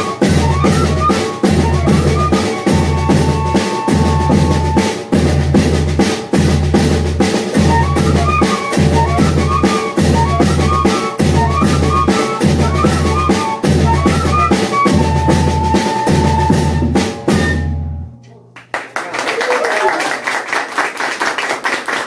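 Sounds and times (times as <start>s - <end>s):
snare drum: 0.0s - 17.7s
fife melody: 0.0s - 18.4s.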